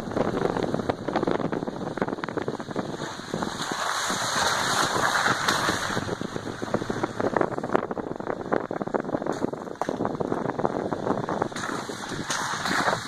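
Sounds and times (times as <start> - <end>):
tyres crackling on gravel: 0.0 - 13.0
wind and tyre hiss: 0.0 - 13.0.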